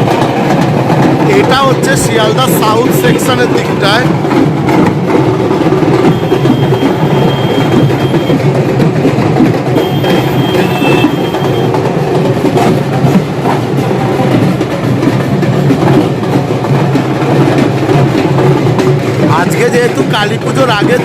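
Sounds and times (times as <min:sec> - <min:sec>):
barrel drums beaten with sticks: 0:00.0 - 0:21.0.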